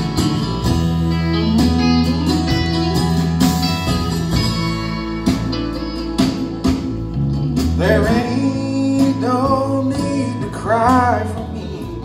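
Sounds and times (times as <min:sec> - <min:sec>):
country band playing: 0:00.0 - 0:12.0.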